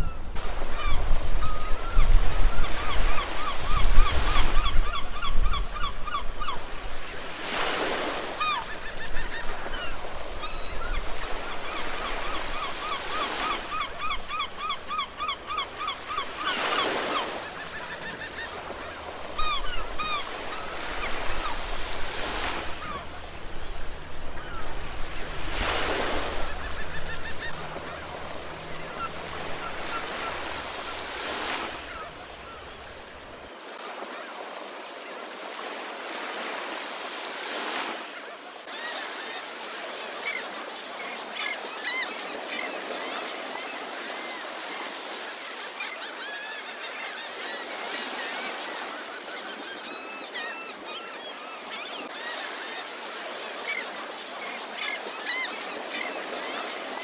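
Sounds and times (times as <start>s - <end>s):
gulls calling: 0.0s - 57.0s
waves breaking on beach: 0.0s - 57.0s.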